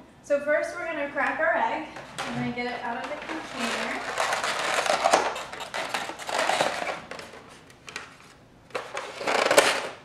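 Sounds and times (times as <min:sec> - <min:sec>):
egg carton crackling: 0:02.0 - 0:10.0.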